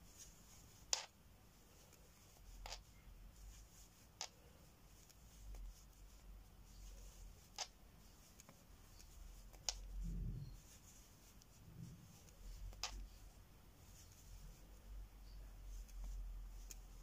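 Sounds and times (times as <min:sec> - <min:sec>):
soft rustle: 0:00.0 - 0:17.0
yarn handling noise: 0:00.0 - 0:17.0.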